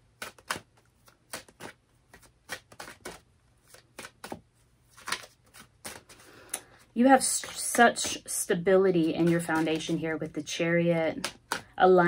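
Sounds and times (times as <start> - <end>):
cards shuffling: 0.0 - 10.3, 11.2 - 11.8.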